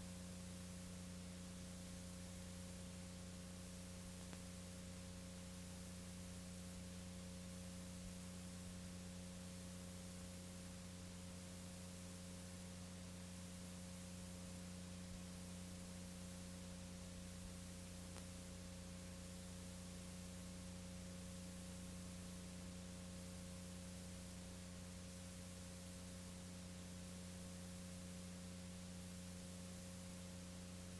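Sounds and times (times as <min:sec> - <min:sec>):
faint electrical hum with hiss: 0:00.0 - 0:30.9.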